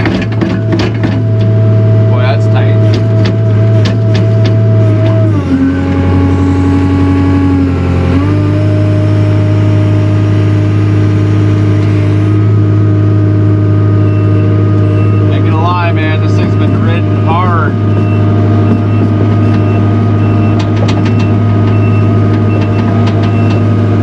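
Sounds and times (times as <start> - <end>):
diesel engine at high revs: 0.0 - 24.0.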